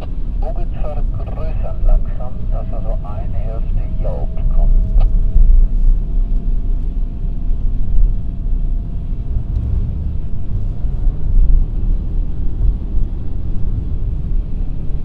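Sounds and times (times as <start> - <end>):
car engine and tyre rumble: 0.0 - 15.0
faint steady whine: 0.0 - 15.0.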